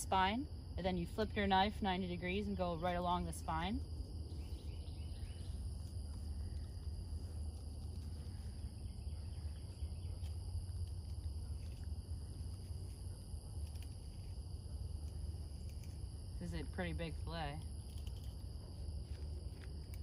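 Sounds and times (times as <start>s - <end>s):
insects trilling: 0.0s - 20.0s
low steady rumble: 0.0s - 20.0s.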